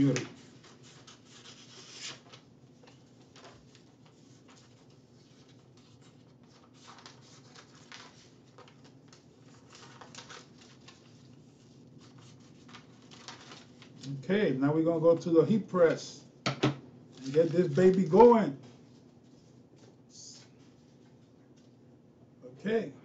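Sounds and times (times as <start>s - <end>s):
paper rustling and crinkling: 0.0s - 14.2s, 17.1s - 21.8s.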